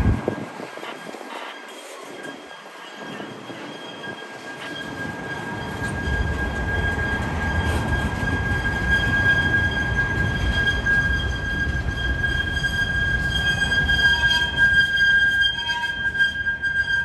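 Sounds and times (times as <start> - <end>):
train wheels rumbling on rail: 0.0 - 17.0
high-pitched wheel squeal: 0.1 - 17.0.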